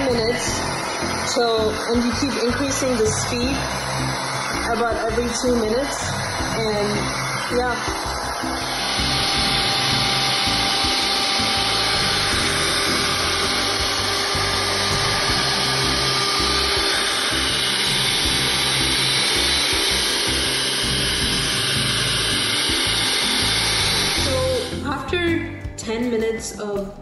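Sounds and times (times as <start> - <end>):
electric hand mixer whirring: 0.0 - 25.2.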